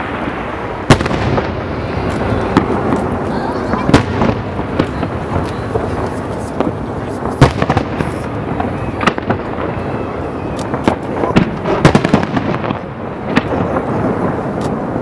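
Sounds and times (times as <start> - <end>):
continuous rumble: 0.0 - 15.0
firework booms and cracks: 0.0 - 15.0.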